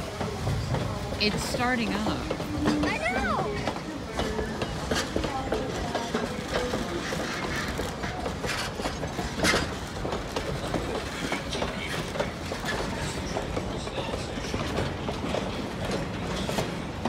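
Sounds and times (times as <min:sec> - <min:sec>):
loud train clank: 0:00.0 - 0:17.0
train wheels clicking over rail joints: 0:00.0 - 0:17.0.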